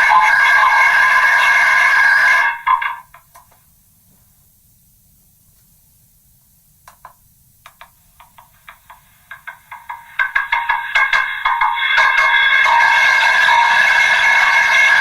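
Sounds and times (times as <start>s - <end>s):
faint hiss: 2.8s - 15.0s.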